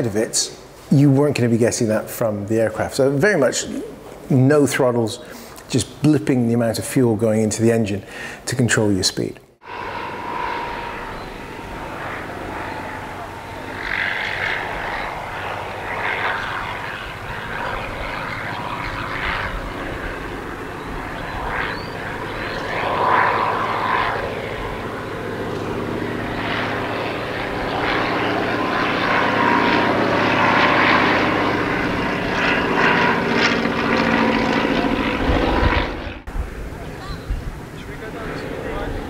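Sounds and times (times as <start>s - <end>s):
biplane engine droning: 0.0s - 8.4s, 9.6s - 39.0s.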